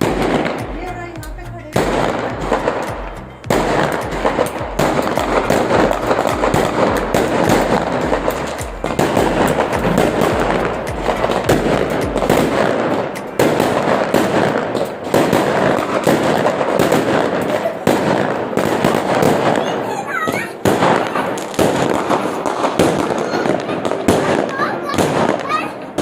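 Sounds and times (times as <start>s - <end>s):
firecrackers crackling rapidly: 0.0s - 26.0s.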